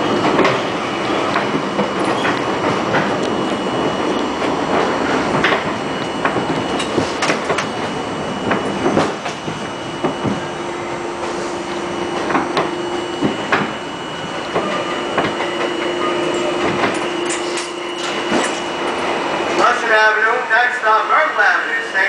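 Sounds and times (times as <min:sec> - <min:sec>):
subway car rumble: 0:00.0 - 0:22.0.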